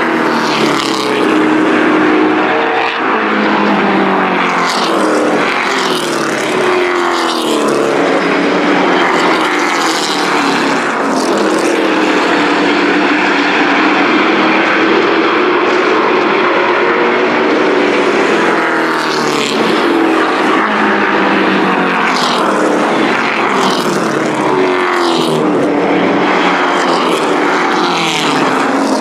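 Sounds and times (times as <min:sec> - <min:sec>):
racing truck engines: 0:00.0 - 0:29.0.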